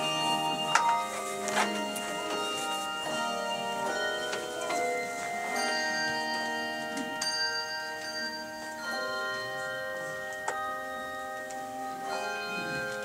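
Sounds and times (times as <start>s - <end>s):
handbell choir playing chords: 0.0s - 13.0s.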